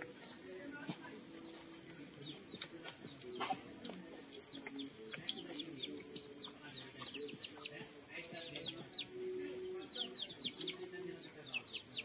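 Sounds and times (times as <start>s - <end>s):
birds chirping: 0.0s - 12.0s
steady high-pitched hiss: 0.0s - 12.0s.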